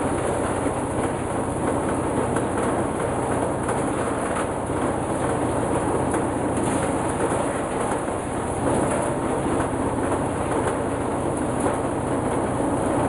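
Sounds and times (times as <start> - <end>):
machine rattling over low hum: 0.0 - 13.0.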